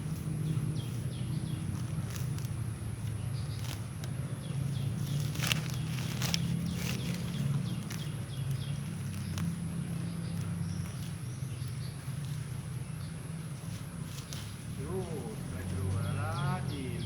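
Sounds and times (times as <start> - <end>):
outdoor rustling: 0.0 - 17.0.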